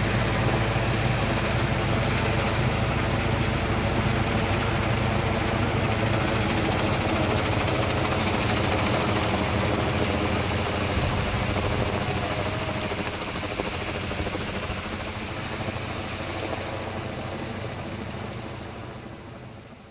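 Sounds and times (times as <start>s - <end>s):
helicopter rotor thrum: 0.0s - 19.7s.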